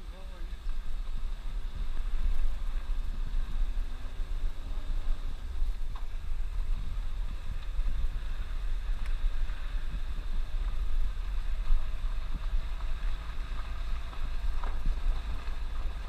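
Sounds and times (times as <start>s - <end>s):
engine and tyres rumbling: 0.0s - 16.0s
wind buffeting microphone: 0.0s - 16.0s.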